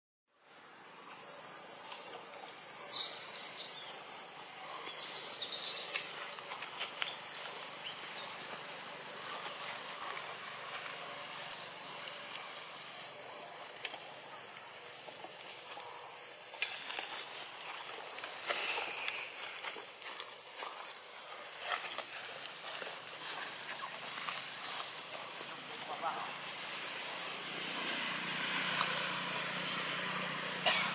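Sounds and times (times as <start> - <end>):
constant hiss: 0.4 - 30.9
high-pitched insect drone: 0.4 - 30.9.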